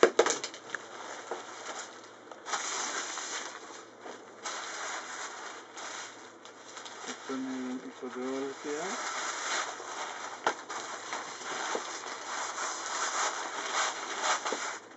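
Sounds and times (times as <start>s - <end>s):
fabric sail rustling and crinkling: 0.8s - 14.9s.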